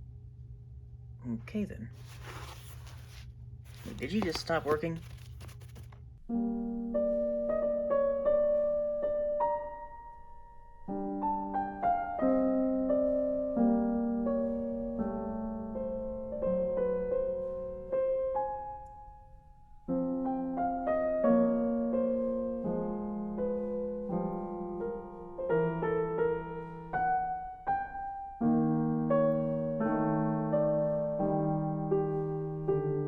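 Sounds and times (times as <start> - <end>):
gentle piano melody: 6.4 - 33.0.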